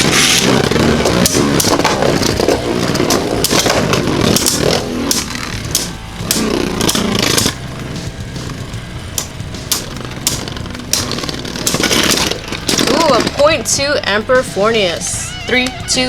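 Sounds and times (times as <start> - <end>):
spinning tops whirring and scraping: 0.0 - 16.0.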